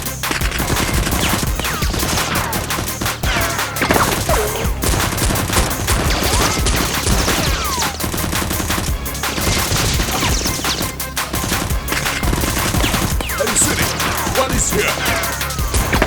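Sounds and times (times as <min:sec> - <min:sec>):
background music: 0:00.0 - 0:16.0
rapid gunfire: 0:00.0 - 0:16.0.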